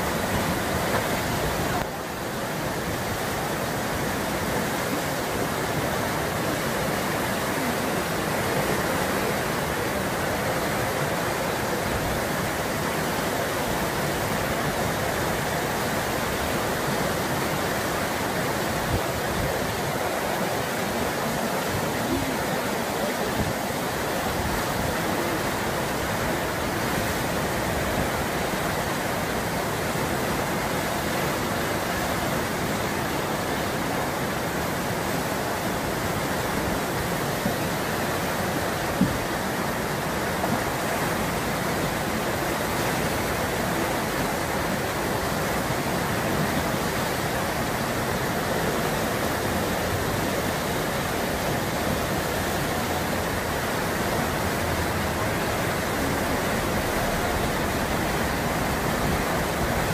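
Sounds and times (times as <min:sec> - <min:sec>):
rushing whitewater: 0:00.0 - 0:59.9.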